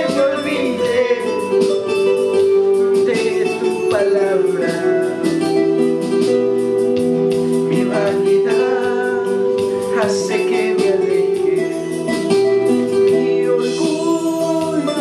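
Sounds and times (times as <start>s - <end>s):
keyboard chords: 0.0s - 15.0s
plucked guitar: 0.0s - 15.0s.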